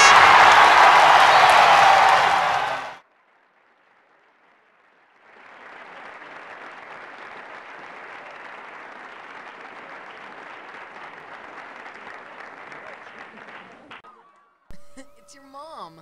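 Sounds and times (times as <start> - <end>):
crowd applauding and cheering: 0.0 - 14.1.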